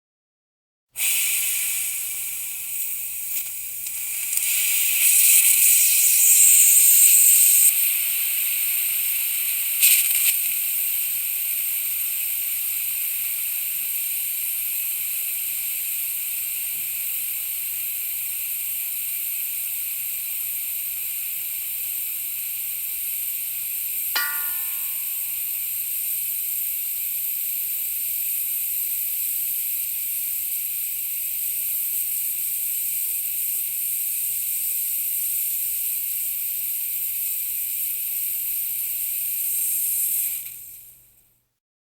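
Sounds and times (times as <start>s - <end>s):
compressed air hissing: 1.0s - 41.0s.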